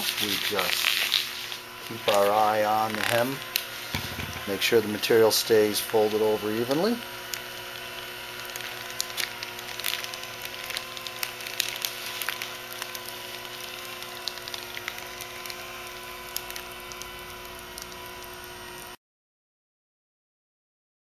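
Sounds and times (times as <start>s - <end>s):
welding machine motor hum: 0.0s - 19.0s.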